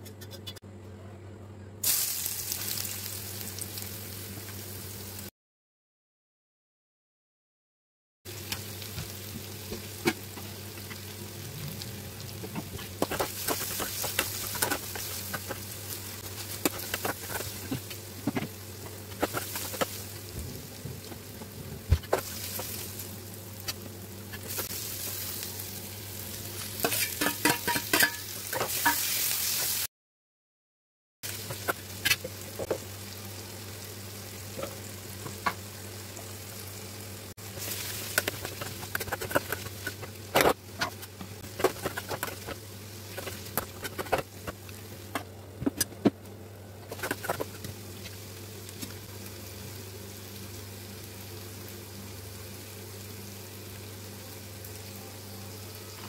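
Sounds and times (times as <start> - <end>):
onions sizzling in a pan: 1.8 - 5.3, 8.3 - 29.9, 31.2 - 45.2, 46.8 - 56.0.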